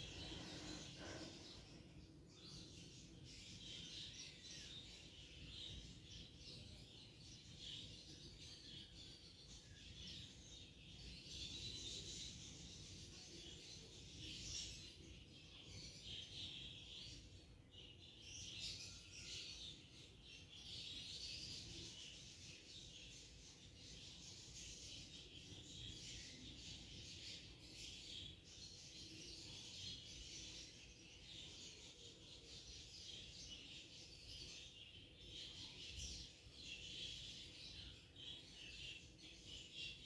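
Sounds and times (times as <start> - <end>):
faint bird chirps: 0.0 - 40.0.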